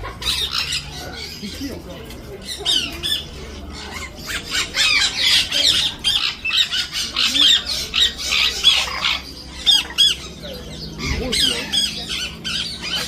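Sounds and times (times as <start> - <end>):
parrots screeching: 0.0 - 1.6, 2.4 - 13.0.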